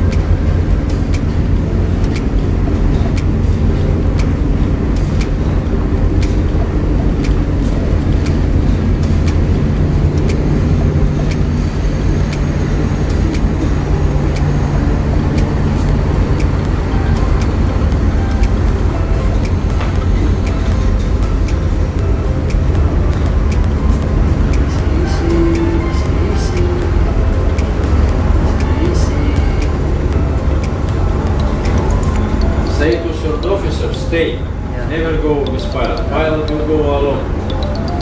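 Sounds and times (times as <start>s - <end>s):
low rumble: 0.0s - 32.8s.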